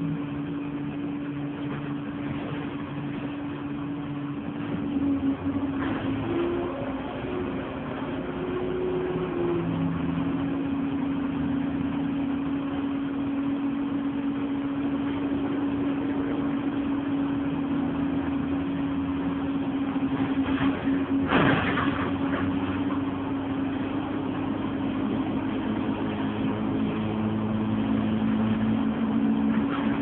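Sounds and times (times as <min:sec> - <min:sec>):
bus engine hum: 0:00.0 - 0:30.0
road noise: 0:00.0 - 0:30.0.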